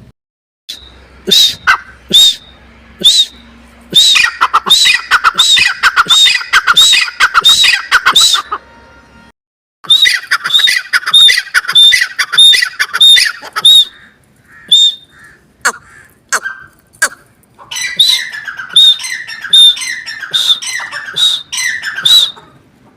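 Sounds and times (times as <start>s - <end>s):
francolin calling: 0.7s - 8.6s, 9.9s - 22.6s.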